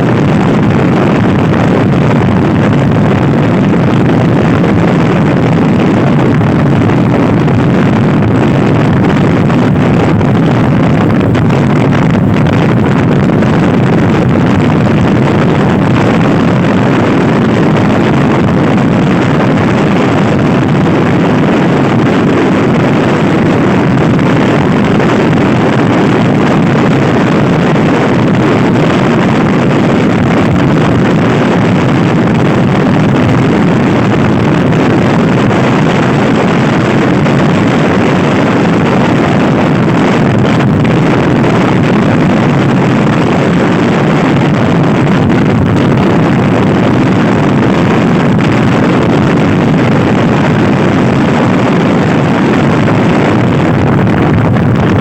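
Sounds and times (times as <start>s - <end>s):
vehicle noise: 0.0s - 55.0s
wind buffeting microphone: 0.0s - 55.0s.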